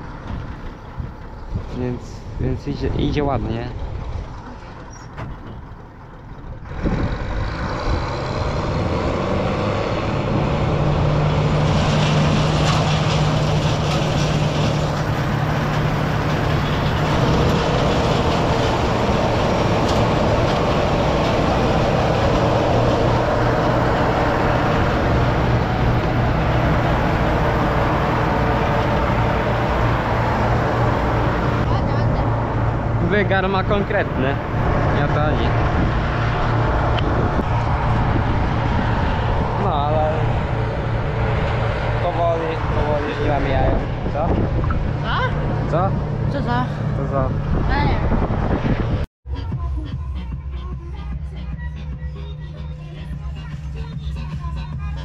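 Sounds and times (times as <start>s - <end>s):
diesel engine running under load: 0.0s - 50.3s.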